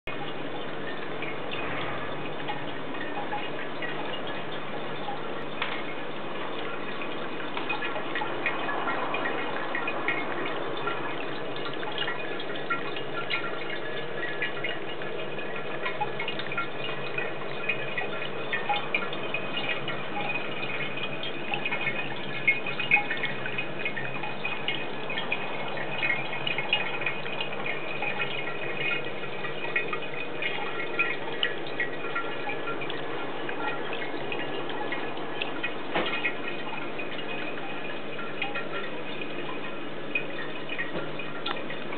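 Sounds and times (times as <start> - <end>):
fountain water trickling: 0.0 - 41.9
water dripping into basin: 0.1 - 41.9.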